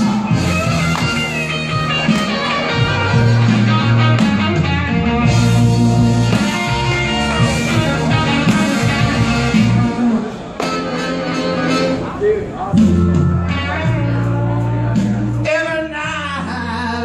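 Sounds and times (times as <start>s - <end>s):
blues backing track: 0.0s - 17.0s
electric guitar: 0.0s - 17.0s.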